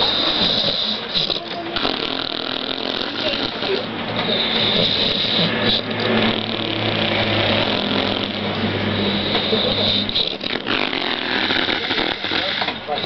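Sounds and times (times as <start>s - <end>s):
person snoring: 0.0s - 13.0s.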